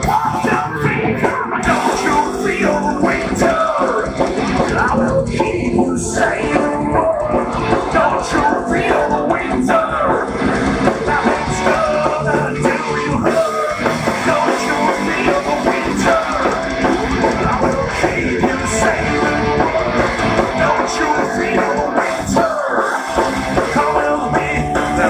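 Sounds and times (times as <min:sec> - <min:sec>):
drum kit: 0:00.0 - 0:25.0
electric guitar: 0:00.0 - 0:25.0
person singing: 0:00.0 - 0:25.0.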